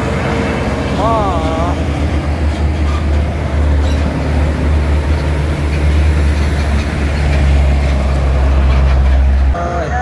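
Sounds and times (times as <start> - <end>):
truck engine drone: 0.0 - 10.0
tyre and road noise: 0.0 - 10.0.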